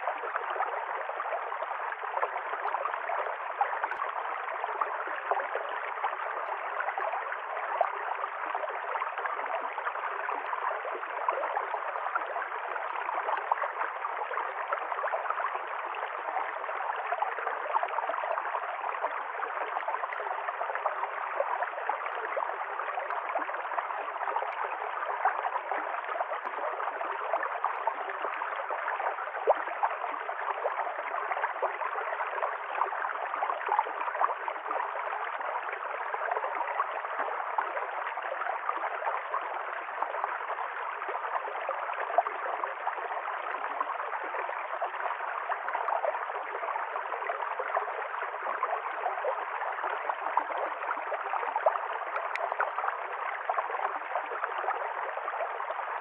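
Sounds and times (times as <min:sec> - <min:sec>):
stream water gurgling over rocks: 0:00.0 - 0:56.0.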